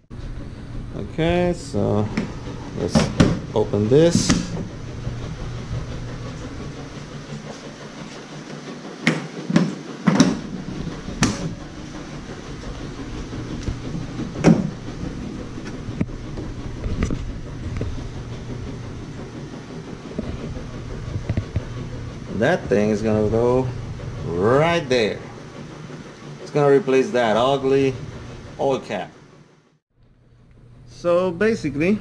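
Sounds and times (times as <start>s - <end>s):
washing machine humming: 0.0s - 32.0s.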